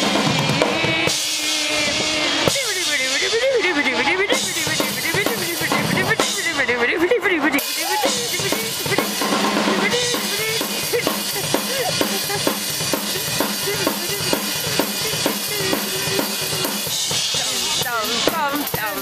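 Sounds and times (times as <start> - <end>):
bass drum and snare beat: 0.0 - 3.2, 4.2 - 19.0.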